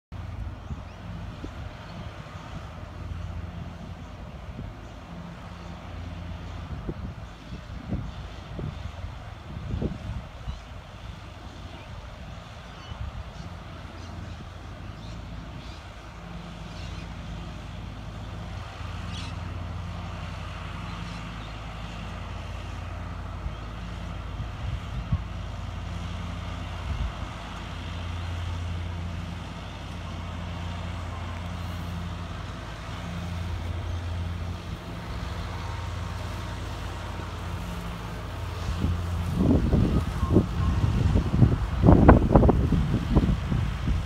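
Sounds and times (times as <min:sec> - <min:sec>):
tractor diesel engine droning: 0:00.1 - 0:44.0.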